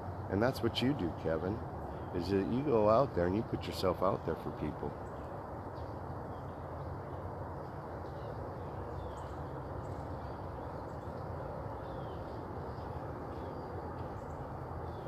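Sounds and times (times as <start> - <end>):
outdoor background rumble: 0.0 - 15.0
bird chirps: 0.6 - 15.0.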